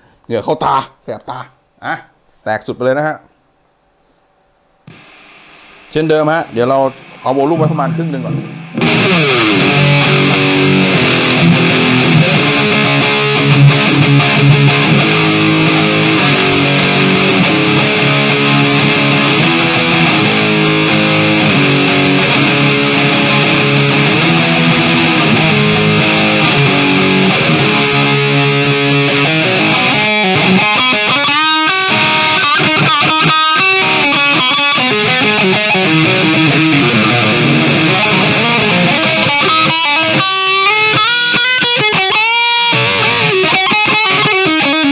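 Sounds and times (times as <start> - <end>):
distorted electric guitar riffing: 4.9 - 44.9.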